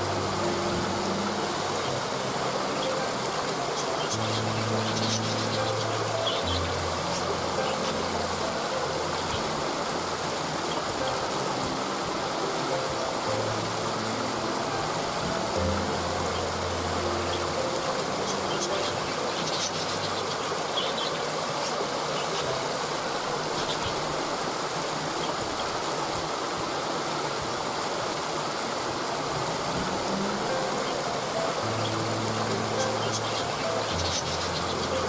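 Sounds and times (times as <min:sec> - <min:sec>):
soft background music: 0:00.0 - 0:35.0
waterfall rushing: 0:00.0 - 0:35.0.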